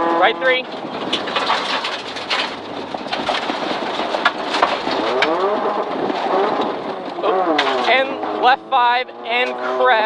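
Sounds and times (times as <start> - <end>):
car engine revving: 0.0 - 10.0
gravel rattling against underbody: 0.0 - 10.0
tyre and road noise: 0.0 - 10.0.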